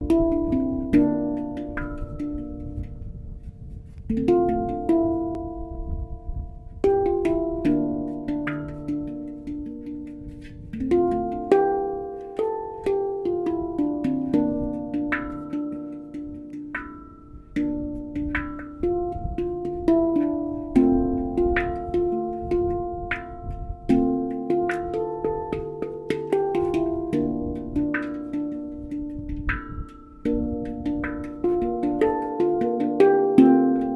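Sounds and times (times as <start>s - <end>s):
handpan melody: 0.0s - 33.9s.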